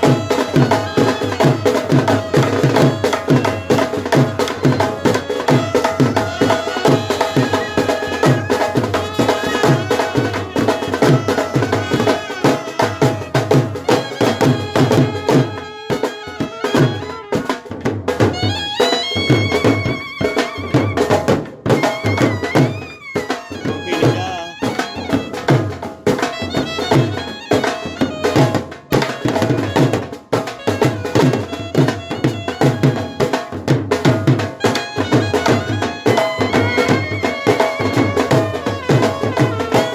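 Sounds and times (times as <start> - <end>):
brass band playing folk music: 0.0 - 39.9
steady drum beat: 0.0 - 39.9.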